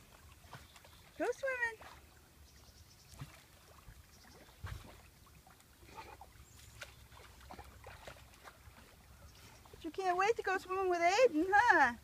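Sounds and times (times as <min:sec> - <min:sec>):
water lapping from dog swimming: 0:00.0 - 0:12.0.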